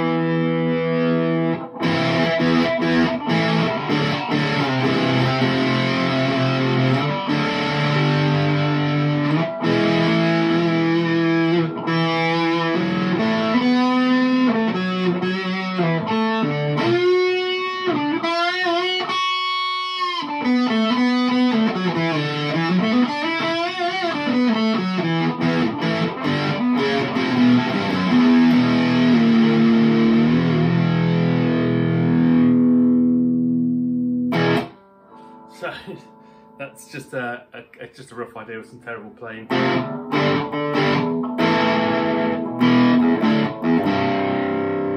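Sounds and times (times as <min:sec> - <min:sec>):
distorted electric guitar: 0:00.0 - 0:37.8, 0:39.2 - 0:44.9.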